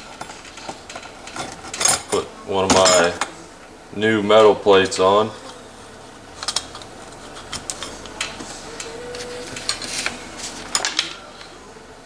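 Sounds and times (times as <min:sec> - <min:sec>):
metallic clicks of clutch plates: 0:00.0 - 0:03.4, 0:04.9 - 0:11.5.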